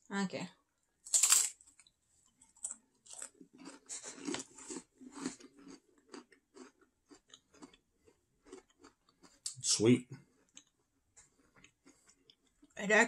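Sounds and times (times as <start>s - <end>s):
crackers crunching: 1.0s - 12.8s.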